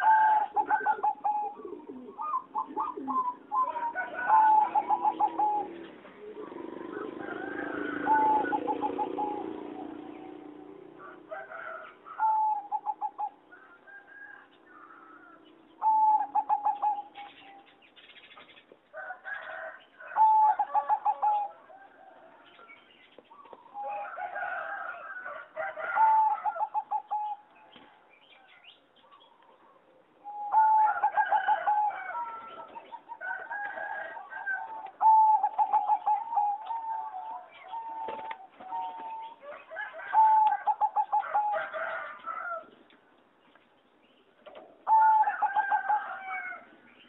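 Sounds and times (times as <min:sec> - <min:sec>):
doves cooing: 0:00.0 - 0:42.9, 0:44.3 - 0:47.0.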